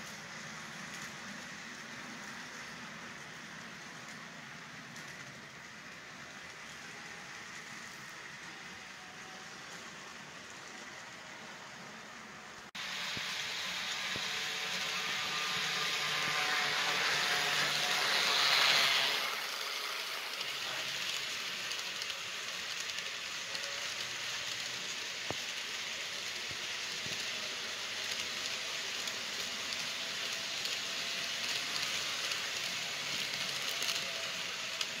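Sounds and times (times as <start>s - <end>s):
model train wheels rushing: 0.0s - 35.0s.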